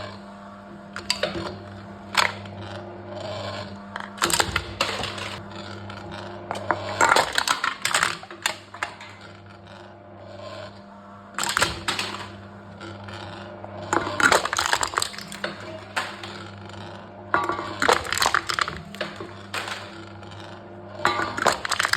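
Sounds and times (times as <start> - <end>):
cans being crushed in machine: 0.5 - 10.0, 10.6 - 21.9.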